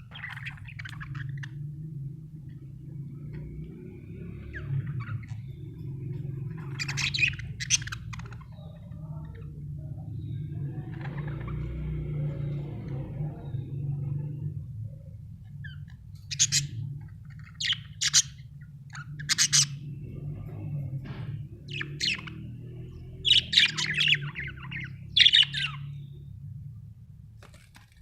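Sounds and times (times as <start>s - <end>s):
budgerigars chirping: 0.0s - 14.4s, 15.4s - 26.2s
steady low hum: 0.0s - 28.0s.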